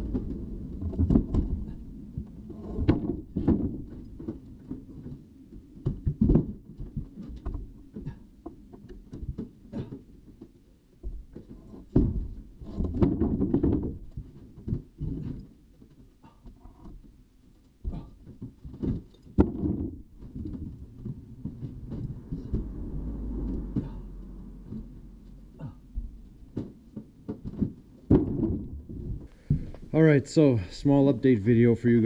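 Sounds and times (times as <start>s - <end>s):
logs dropped onto wooden deck: 0.0s - 5.2s, 5.8s - 17.1s, 17.8s - 22.7s, 25.6s - 29.9s.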